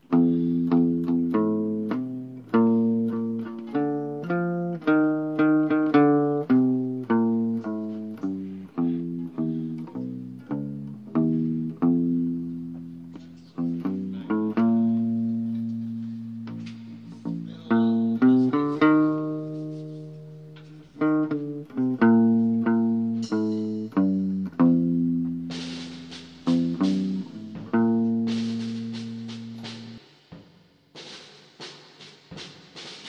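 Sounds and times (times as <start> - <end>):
guitar playing slow melody: 0.0 - 30.0.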